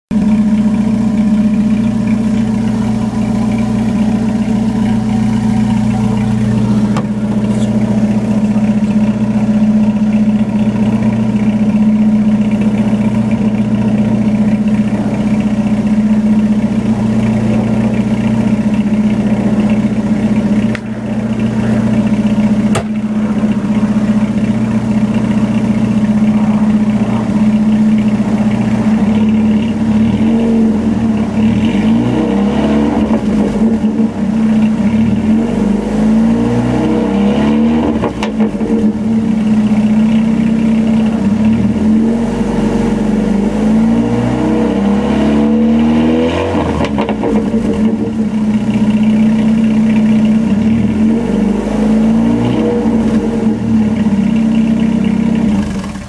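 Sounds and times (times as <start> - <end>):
car engine idling raspy exhaust: 0.1 - 56.0.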